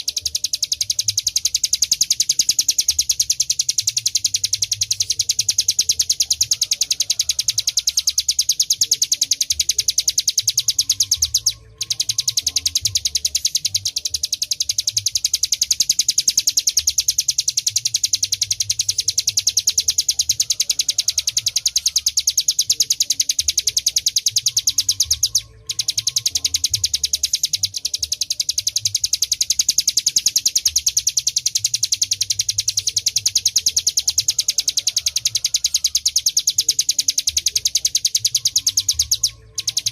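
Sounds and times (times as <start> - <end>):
bird trilling: 0.0 - 39.9.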